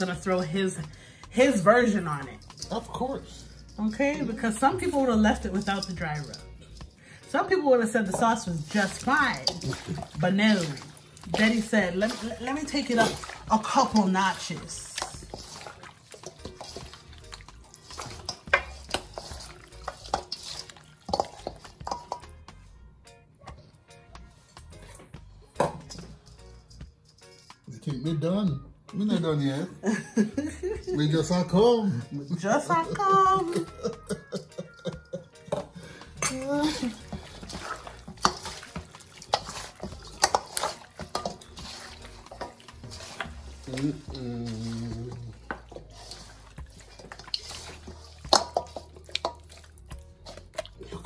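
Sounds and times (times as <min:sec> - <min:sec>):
utensil stirring sticky food: 0:00.0 - 0:22.7, 0:24.5 - 0:28.0, 0:30.7 - 0:51.0
background music: 0:00.0 - 0:51.0.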